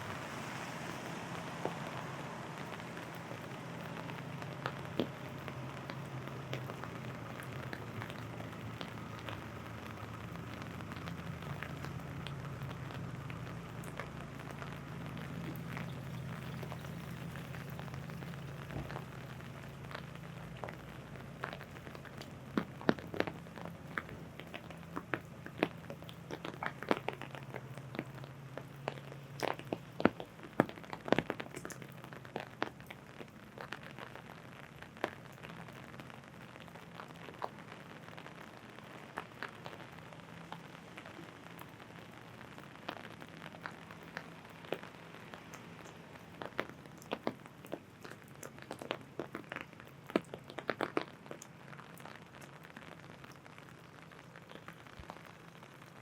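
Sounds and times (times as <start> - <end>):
low steady hum: 0.0 - 56.0
rain hiss: 0.0 - 56.0
raindrops tapping on an umbrella: 0.0 - 56.0.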